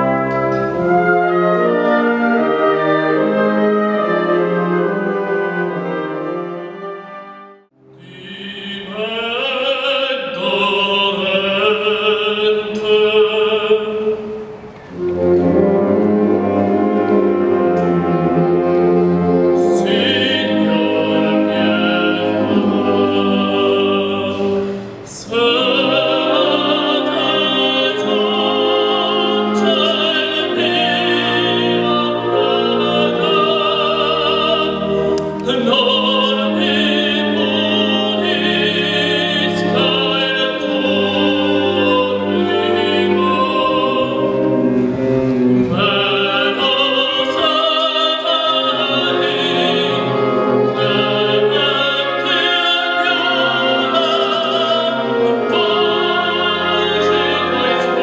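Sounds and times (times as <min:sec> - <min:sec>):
wind band playing: 0:00.0 - 0:09.0, 0:10.3 - 0:58.0
tenor singing with vibrato: 0:07.8 - 0:58.0.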